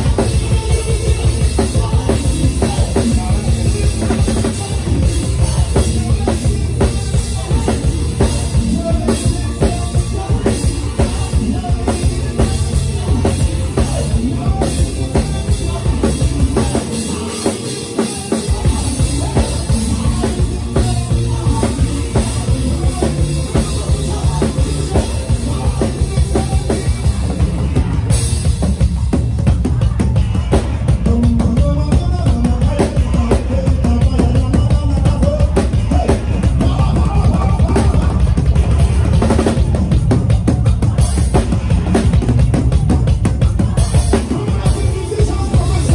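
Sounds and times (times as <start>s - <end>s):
deep bass: 0.0s - 17.3s, 18.5s - 45.9s
drum kit: 0.0s - 45.9s
live band instrumental groove: 0.0s - 45.9s.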